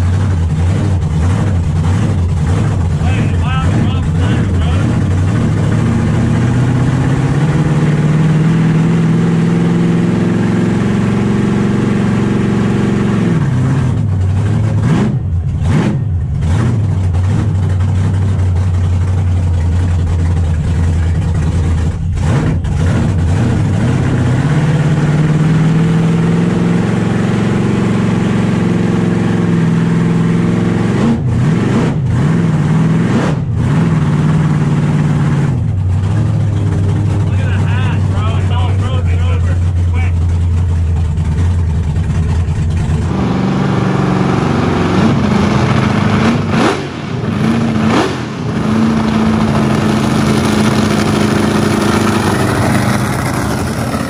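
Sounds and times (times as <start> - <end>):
supercharged engine revving: 0.0 - 54.0.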